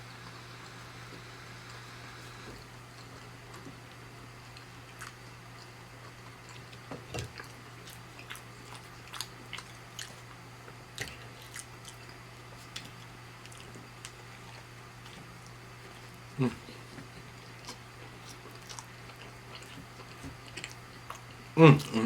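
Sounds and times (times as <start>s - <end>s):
person chewing crunchy food: 3.0s - 22.0s.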